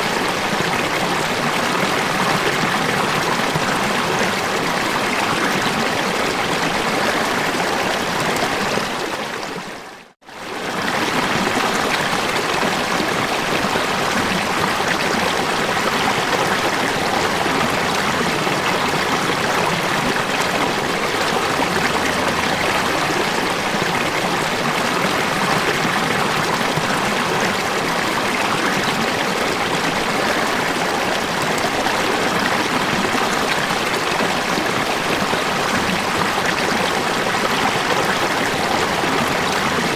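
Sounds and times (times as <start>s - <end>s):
falling water: 0.0s - 39.9s.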